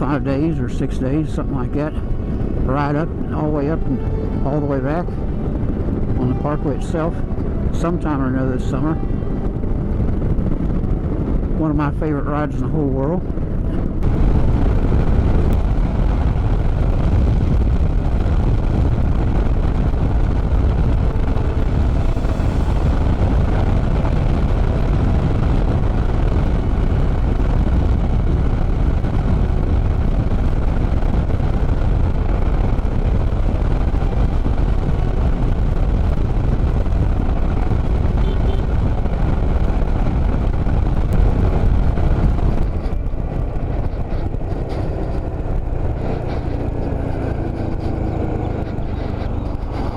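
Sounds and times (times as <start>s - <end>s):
wind and road noise: 0.0s - 49.9s.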